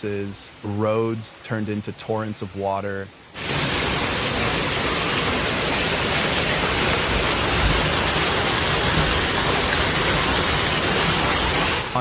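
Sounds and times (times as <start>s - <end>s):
heavy rain downpour: 0.0s - 12.0s.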